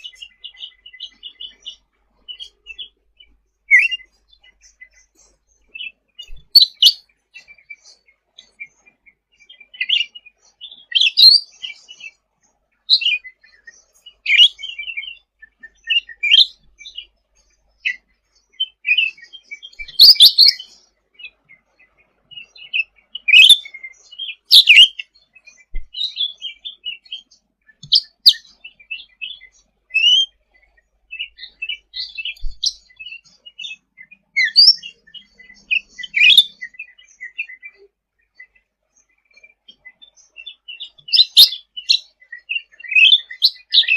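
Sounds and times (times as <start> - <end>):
songbird chirping and whistling: 0.0 - 43.9.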